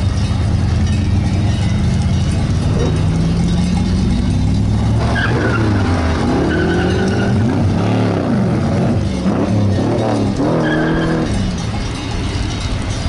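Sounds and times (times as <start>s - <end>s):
sports car engines accelerating: 0.0s - 12.6s.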